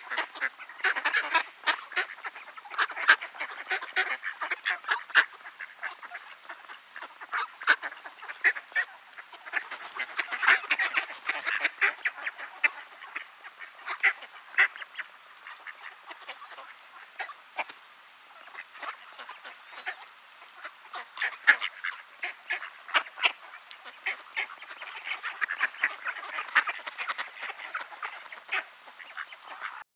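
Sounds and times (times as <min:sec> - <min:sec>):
ducks quacking: 0:00.0 - 0:29.8.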